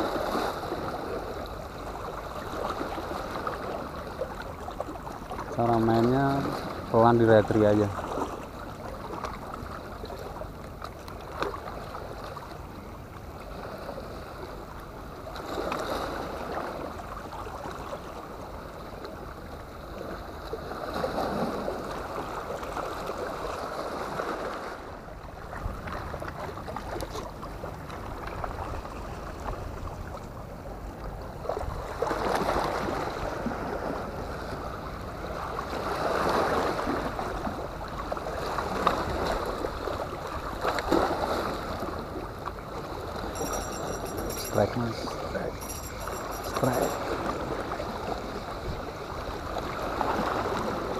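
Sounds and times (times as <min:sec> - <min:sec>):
waves splashing against rocks: 0:00.0 - 0:12.6, 0:13.2 - 0:50.9
steady rush of water: 0:00.0 - 0:50.9.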